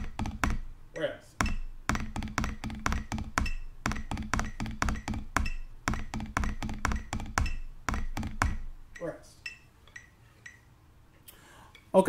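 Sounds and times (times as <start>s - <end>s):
drumsticks striking a drum: 0.0s - 0.8s, 1.4s - 10.6s.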